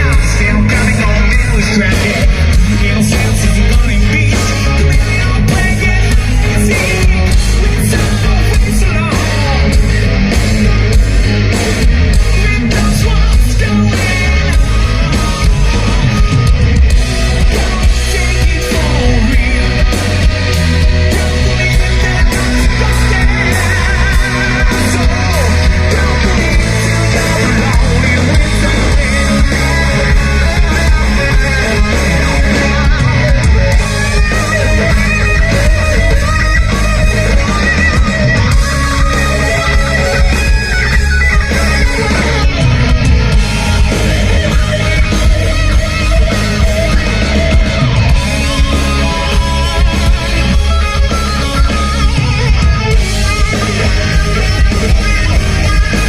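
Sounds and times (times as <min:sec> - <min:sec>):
harsh vocals: 0:00.0 - 0:56.0
heavy metal band playing: 0:00.0 - 0:56.0.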